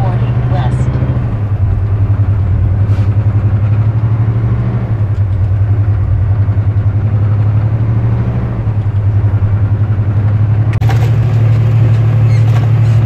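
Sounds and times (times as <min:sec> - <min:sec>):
road noise: 0:00.0 - 0:13.0
truck diesel engine drone: 0:00.0 - 0:13.0.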